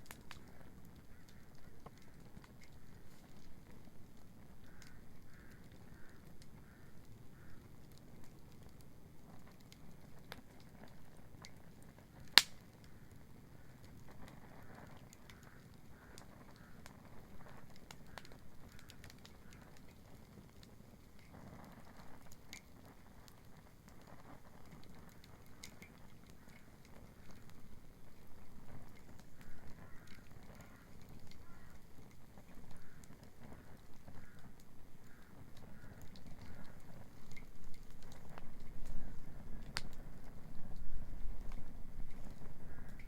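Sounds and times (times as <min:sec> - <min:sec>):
bonfire crackling and popping: 0:00.0 - 0:43.0.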